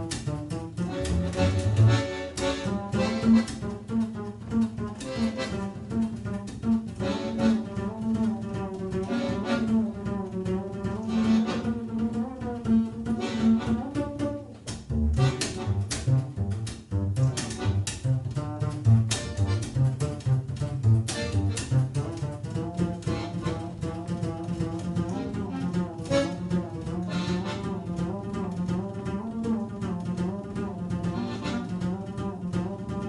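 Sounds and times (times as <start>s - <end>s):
double bass: 0.0s - 33.0s.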